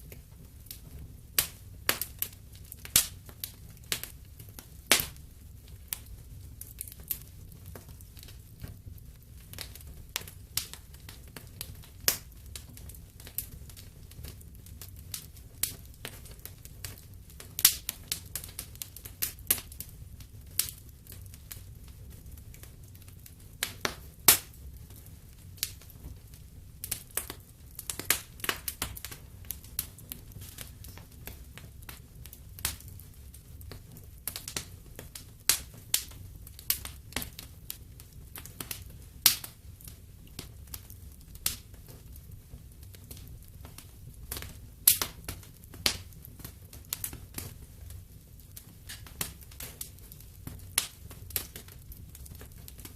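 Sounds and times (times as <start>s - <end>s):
fire crackling and popping: 0.0s - 52.9s.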